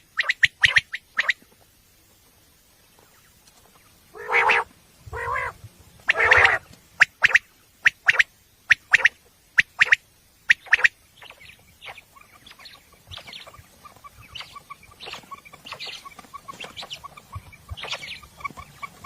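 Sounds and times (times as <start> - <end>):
quail calling: 0.0 - 1.4, 3.7 - 19.0.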